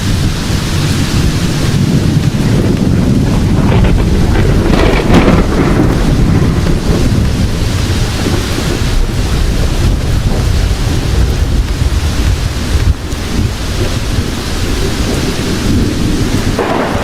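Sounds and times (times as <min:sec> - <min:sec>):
heavy rain: 0:00.0 - 0:17.0
thunder crackle: 0:00.0 - 0:17.0
thunder rumbling: 0:00.0 - 0:17.0.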